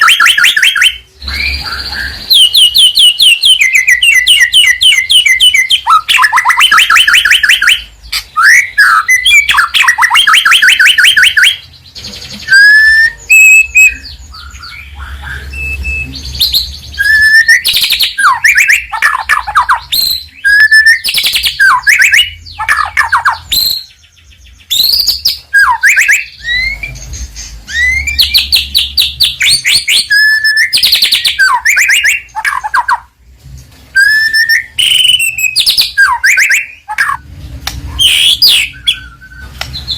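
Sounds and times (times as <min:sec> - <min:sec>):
bird singing varied trills: 0:00.0 - 0:33.2, 0:33.9 - 0:39.9.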